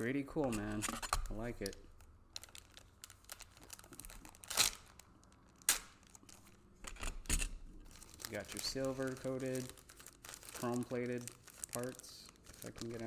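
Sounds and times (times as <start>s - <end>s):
plastic crackles: 0.3s - 13.0s
plastic bags crinkling: 0.5s - 6.7s, 7.8s - 13.0s.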